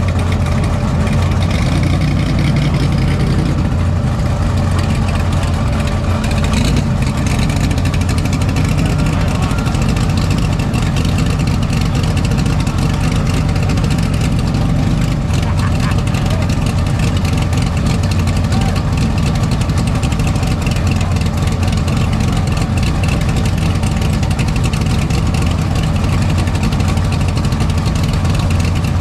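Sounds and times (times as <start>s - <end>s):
race car engines idling: 0.0s - 29.0s.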